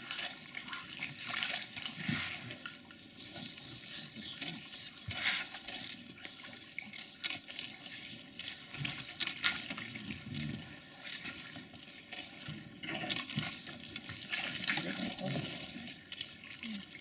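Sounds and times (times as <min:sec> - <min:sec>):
water sloshing and lapping: 0:00.0 - 0:17.0.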